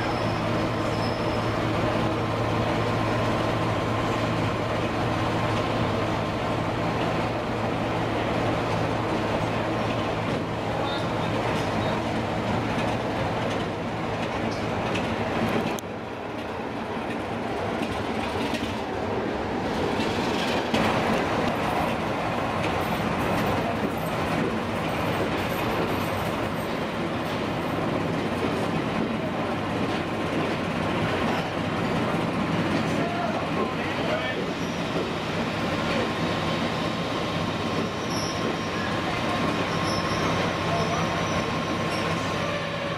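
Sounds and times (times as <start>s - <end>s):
coaches rumbling on rails: 0.0s - 42.9s.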